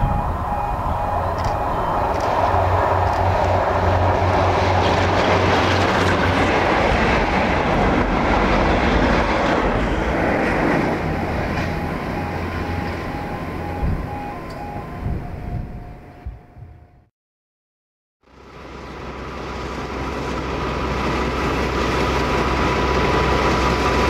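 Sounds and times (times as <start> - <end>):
train wheels rumbling on rails: 0.0 - 15.9, 18.7 - 24.0
diesel locomotive engine drone: 0.0 - 17.1, 18.2 - 24.0.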